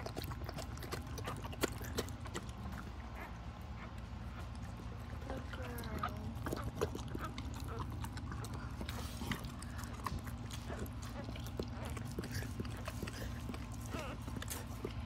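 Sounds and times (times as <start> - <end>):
dog licking wet smacks: 0.0 - 15.0.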